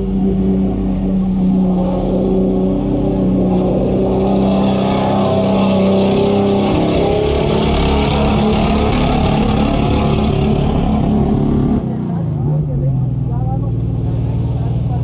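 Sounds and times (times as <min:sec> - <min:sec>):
truck engine running hard: 0:00.0 - 0:15.0.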